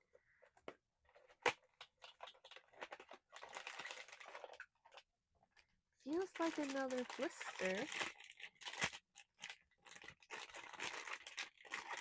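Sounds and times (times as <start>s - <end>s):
cardboard and plastic crinkling: 0.3s - 5.1s, 6.0s - 12.0s.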